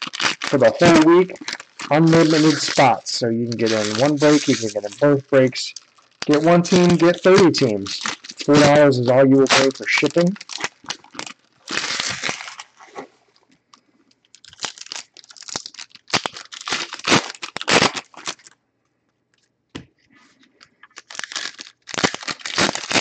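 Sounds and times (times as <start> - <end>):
foil wrappers tearing and crinkling: 0.0 - 13.0, 14.3 - 18.6, 20.8 - 23.0.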